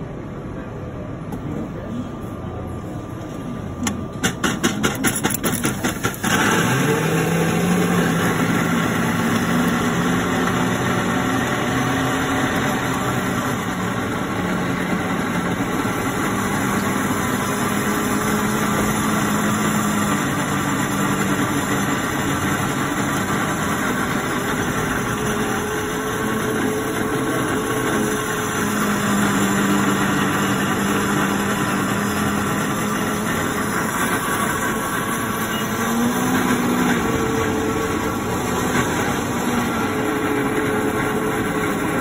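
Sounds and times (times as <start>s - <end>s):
blending machine motor humming: 4.8s - 42.0s.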